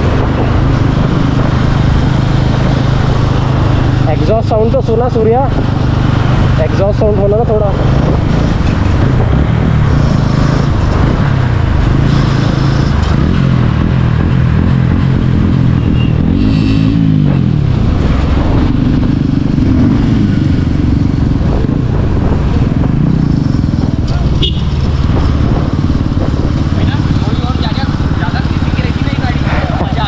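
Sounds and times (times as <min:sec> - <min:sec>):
engine revving: 0:00.0 - 0:30.0
motorcycle engines running: 0:00.0 - 0:30.0.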